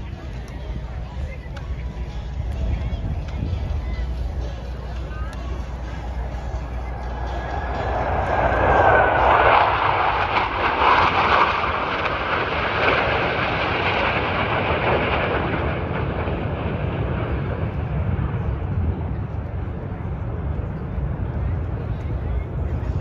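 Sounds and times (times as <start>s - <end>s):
low rumble: 0.0s - 23.0s
jet aircraft flying past: 3.2s - 23.0s.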